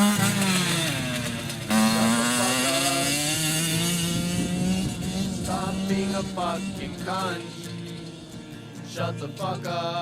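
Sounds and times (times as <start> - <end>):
two-stroke motorcycle engine revving: 0.0 - 9.7.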